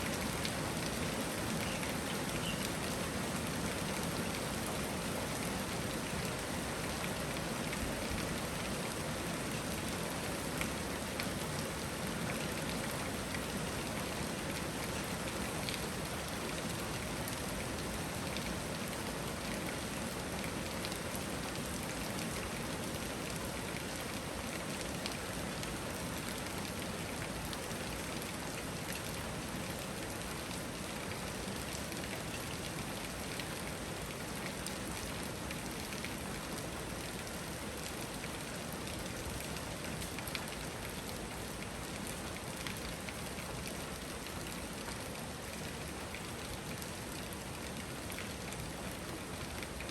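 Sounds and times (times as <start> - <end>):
raindrops ticking on surfaces: 0.0 - 49.9.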